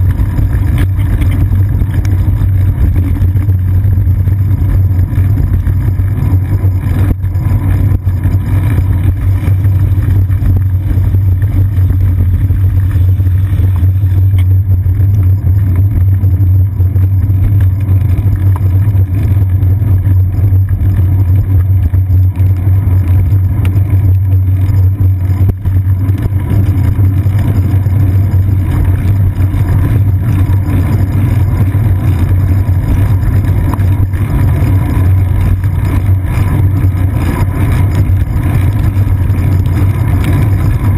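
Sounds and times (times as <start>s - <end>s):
bicycle rumbling over wet pavement: 0.0s - 40.9s
wind noise: 0.0s - 40.9s.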